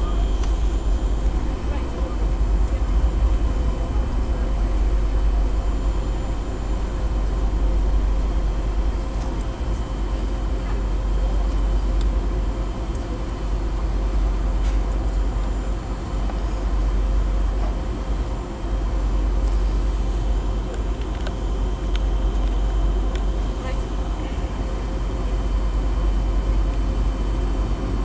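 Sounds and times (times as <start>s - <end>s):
aircraft cabin rumble: 0.0s - 28.0s
jet engine whine: 0.0s - 28.0s.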